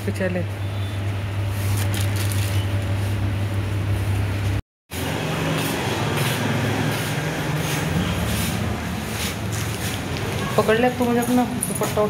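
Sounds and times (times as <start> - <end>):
shop interior hum: 0.0 - 12.0.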